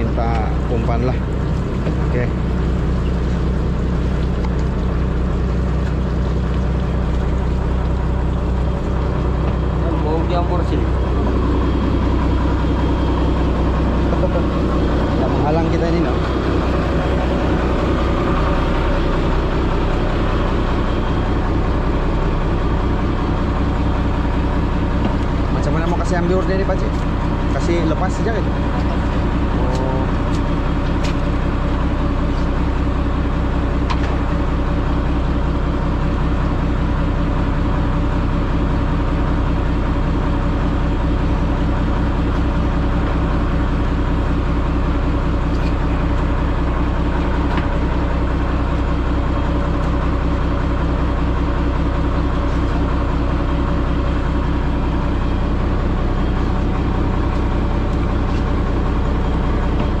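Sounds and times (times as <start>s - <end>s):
boat engine humming: 0.0s - 60.0s.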